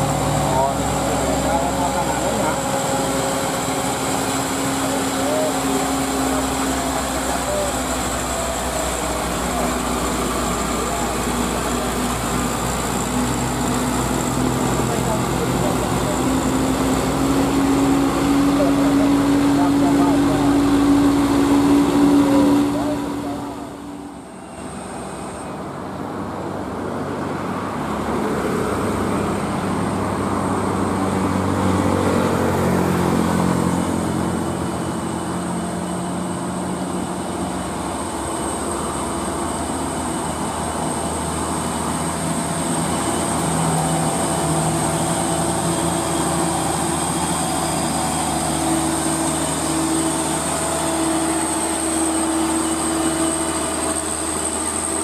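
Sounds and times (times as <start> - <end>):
diesel truck engine straining: 0.0 - 55.0
road traffic noise: 0.0 - 55.0.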